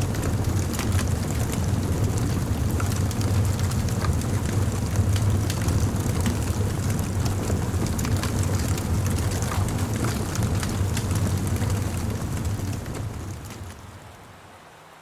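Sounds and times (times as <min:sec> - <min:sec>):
campfire crackling and popping: 0:00.0 - 0:14.2.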